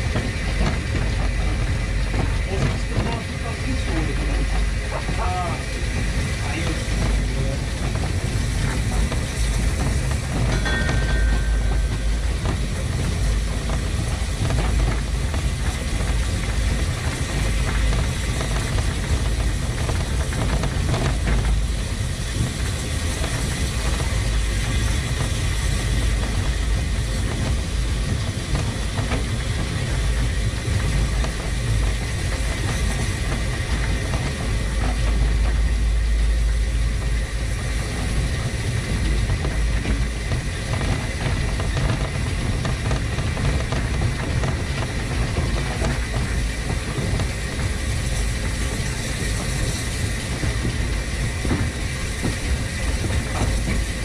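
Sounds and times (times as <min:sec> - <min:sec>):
locomotive wheels rumbling on rails: 0:00.0 - 0:54.0.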